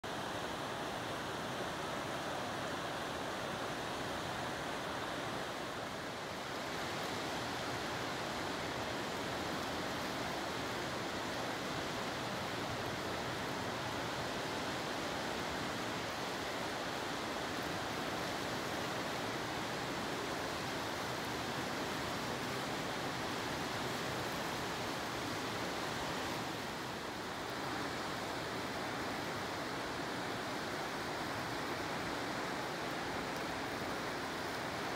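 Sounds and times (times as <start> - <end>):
whitewater rapids rushing: 0.1 - 34.9.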